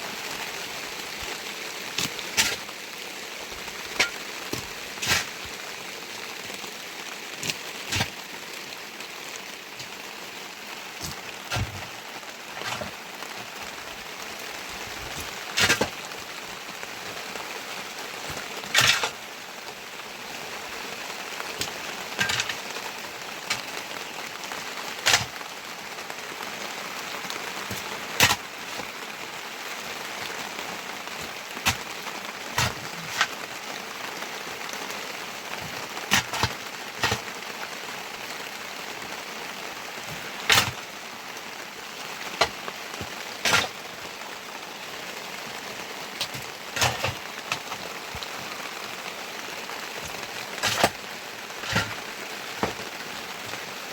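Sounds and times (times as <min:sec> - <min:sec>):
heavy rain: 0:00.0 - 0:53.9.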